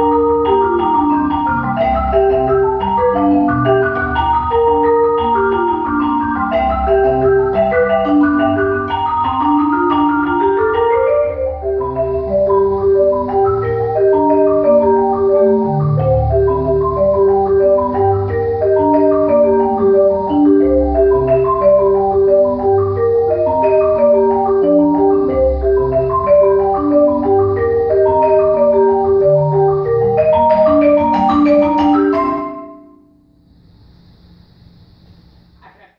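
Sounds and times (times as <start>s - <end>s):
marimba duo playing: 0.0s - 32.8s.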